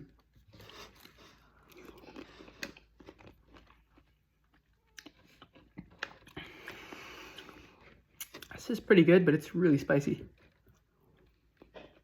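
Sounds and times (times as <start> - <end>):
person chewing crunchy fruit: 0.0 - 8.9, 9.5 - 12.0.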